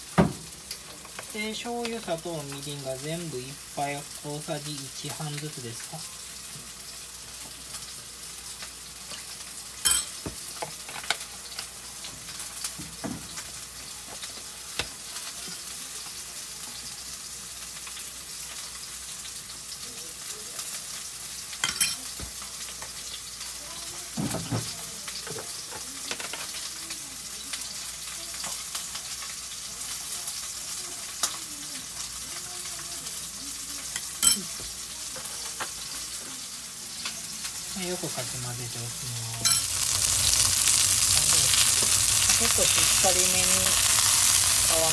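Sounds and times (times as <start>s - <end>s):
chicken sizzling in a pan: 0.0s - 44.9s.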